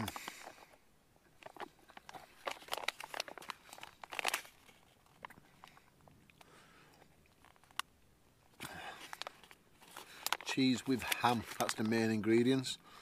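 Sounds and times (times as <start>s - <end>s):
food crunching and crinkling: 0.0s - 12.1s.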